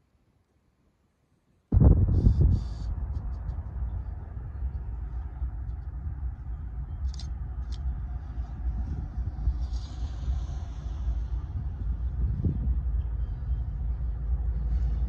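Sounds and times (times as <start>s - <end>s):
distant locomotive rumble: 1.8s - 15.0s.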